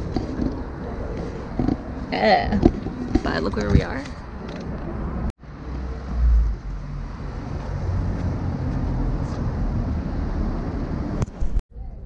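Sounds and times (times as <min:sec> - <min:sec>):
cars and scooters passing: 0:00.0 - 0:11.6.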